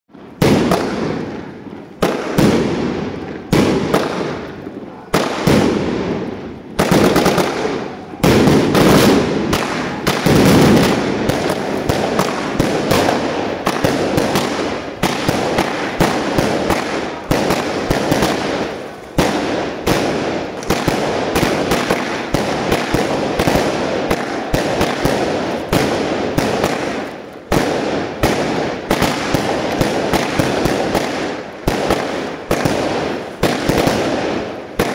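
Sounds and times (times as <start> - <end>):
fireworks bangs with echo: 0.1 - 34.9.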